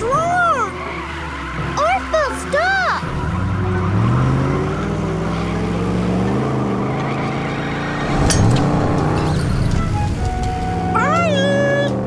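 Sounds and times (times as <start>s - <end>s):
cartoon truck engine revving: 0.0s - 12.0s.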